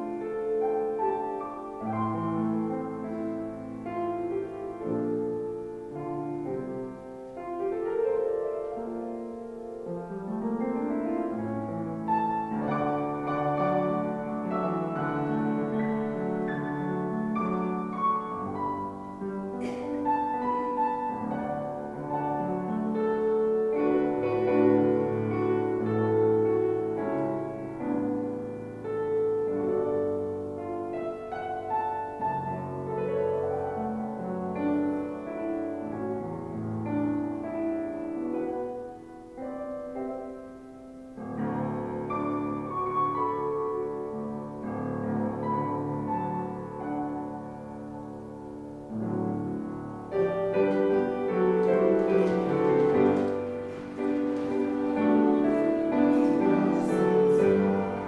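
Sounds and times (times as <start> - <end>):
slow piano music with held chords: 0.0 - 58.0.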